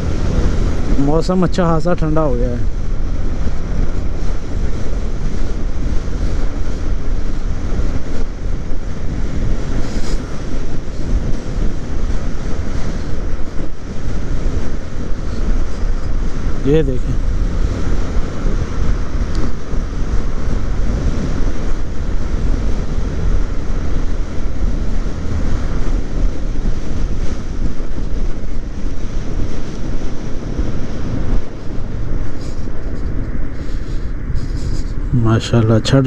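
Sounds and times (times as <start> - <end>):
motorcycle running: 0.0 - 36.0
wind buffeting microphone: 0.0 - 36.0.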